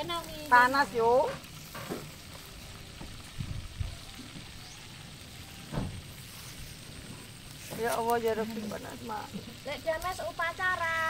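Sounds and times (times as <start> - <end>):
fish sizzling over fire: 0.0 - 11.0.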